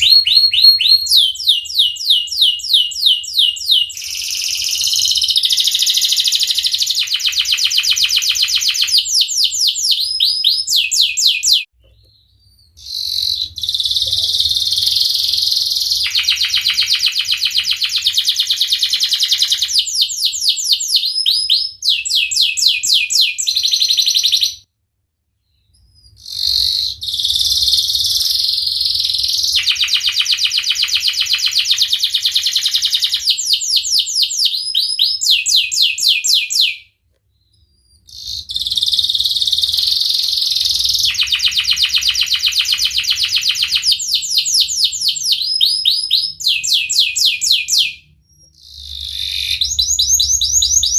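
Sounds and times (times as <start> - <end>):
canary singing trills: 0.0 - 24.7, 25.4 - 50.9.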